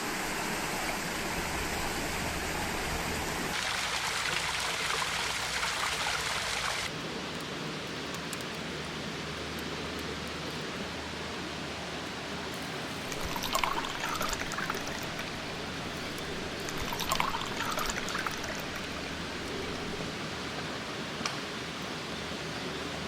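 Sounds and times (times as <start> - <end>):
flowing water: 0.0 - 7.0, 10.6 - 23.0.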